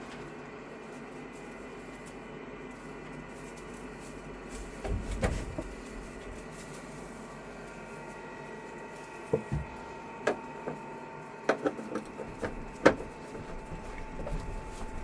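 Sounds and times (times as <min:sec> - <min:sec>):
faint constant whine: 0:00.0 - 0:15.0
heater whirring hum: 0:00.0 - 0:15.0.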